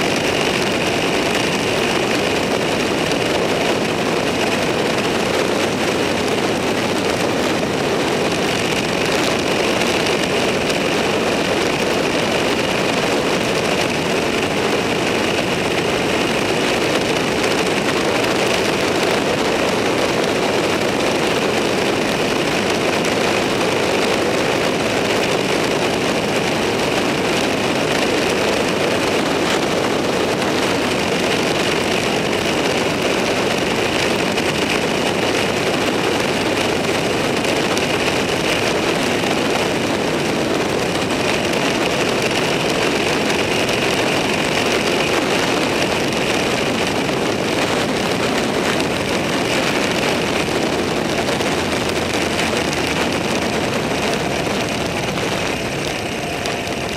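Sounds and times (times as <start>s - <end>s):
vehicle cruising along road: 0.0s - 56.9s.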